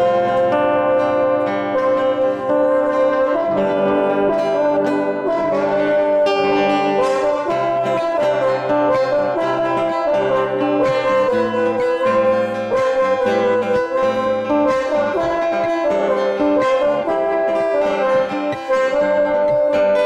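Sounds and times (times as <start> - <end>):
acoustic guitar strumming: 0.0 - 20.0
brass melody: 0.0 - 20.0.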